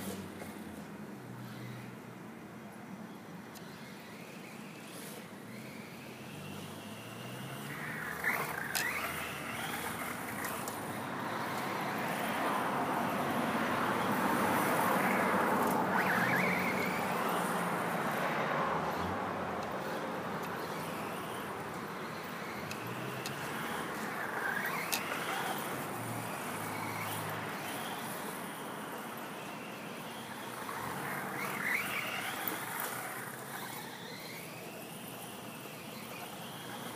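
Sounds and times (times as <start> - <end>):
rc truck electric motor whine: 0.0 - 36.9.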